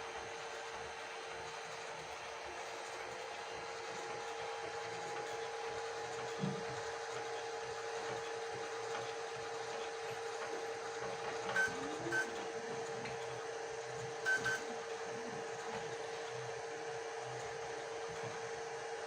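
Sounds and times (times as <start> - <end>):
printer motors humming: 0.0 - 19.0.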